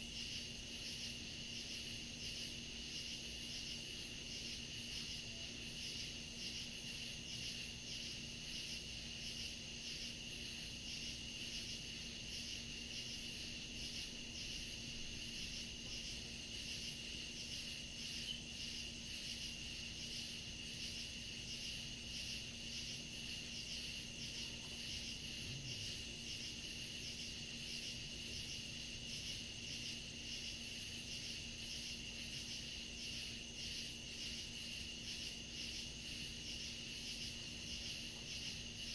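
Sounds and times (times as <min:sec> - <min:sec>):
insects trilling: 0:00.0 - 0:38.9
pulsing cricket chirp: 0:00.0 - 0:38.9.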